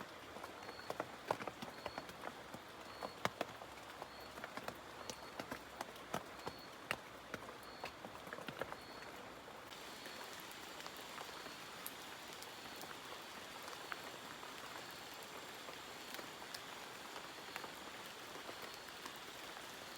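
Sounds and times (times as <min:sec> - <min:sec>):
steady rain: 0:00.0 - 0:19.9.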